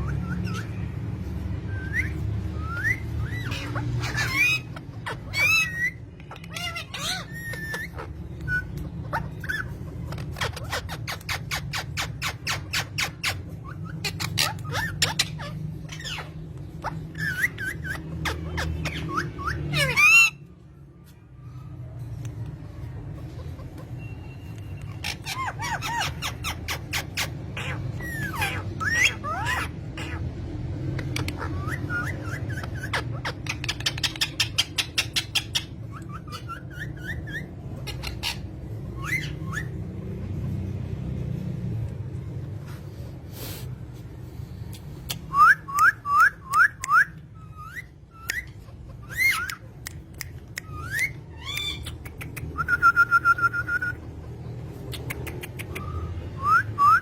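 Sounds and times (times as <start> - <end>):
bird chirping: 0.0 - 42.8, 44.7 - 57.0.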